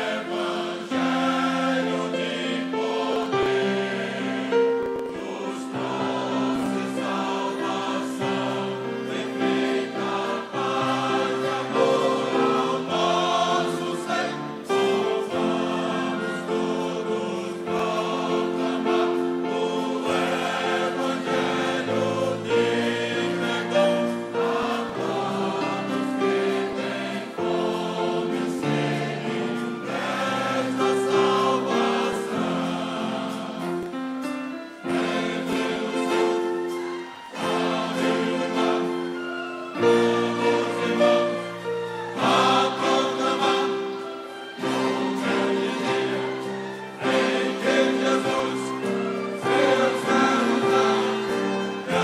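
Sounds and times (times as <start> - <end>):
mixed choir singing gospel: 0.0 - 52.0.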